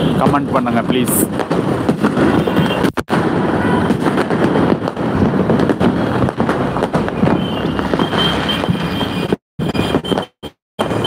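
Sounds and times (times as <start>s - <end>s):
fireworks bangs and crackle: 0.0s - 11.0s.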